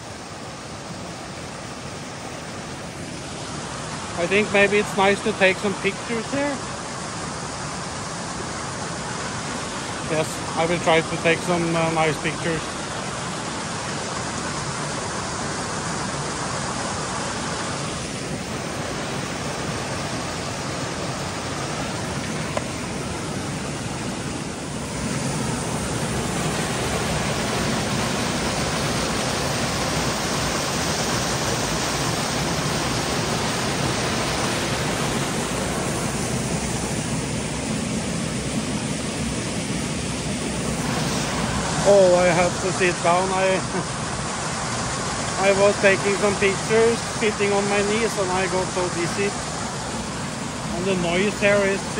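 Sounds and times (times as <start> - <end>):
waterfall rushing over rocks: 0.0 - 51.9.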